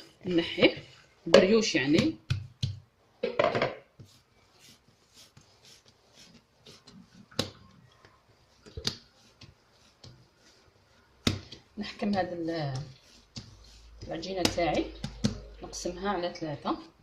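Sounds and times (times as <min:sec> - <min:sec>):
hands handling dough: 0:00.0 - 0:17.0.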